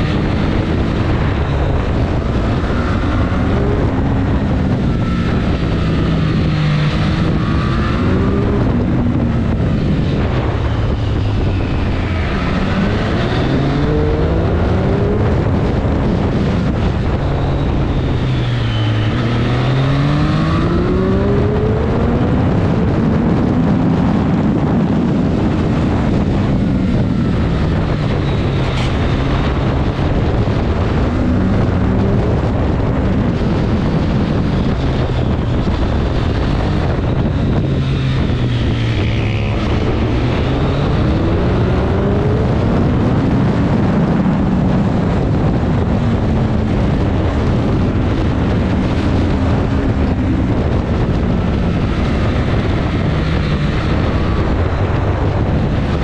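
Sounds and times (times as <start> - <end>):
motorcycle engine at speed: 0.0 - 56.0
wind buffeting the microphone: 0.0 - 56.0.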